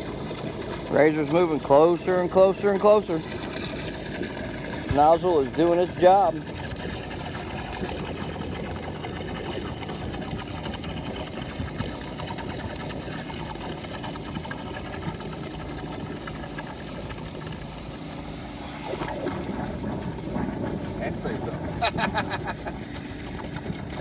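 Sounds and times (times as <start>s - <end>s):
engine-driven pump running: 0.0s - 24.0s
water gurgling at nozzle: 0.0s - 24.0s.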